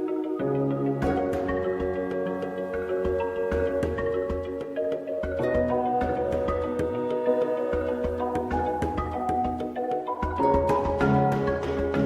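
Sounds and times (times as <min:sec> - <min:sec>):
soft mallet percussion melody: 0:00.0 - 0:12.0.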